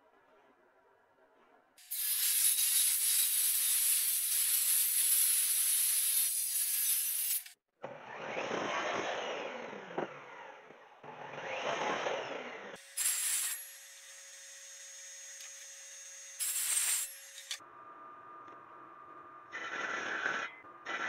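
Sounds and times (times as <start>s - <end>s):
miter saw cutting wood: 1.8s - 17.6s, 19.5s - 21.0s.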